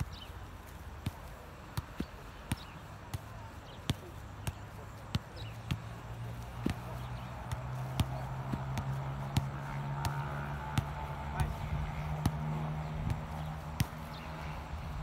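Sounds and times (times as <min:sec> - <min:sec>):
foot kicking football: 0:00.0 - 0:15.0.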